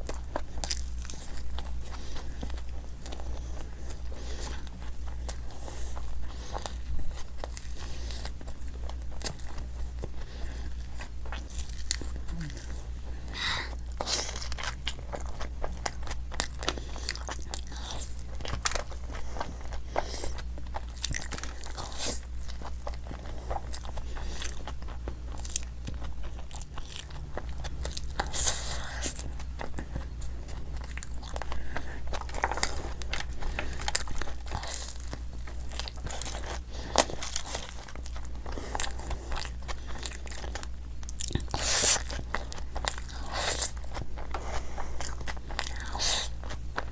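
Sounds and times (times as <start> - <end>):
faint low hum: 0.0 - 46.9
person chewing crunchy snacks: 0.0 - 46.9.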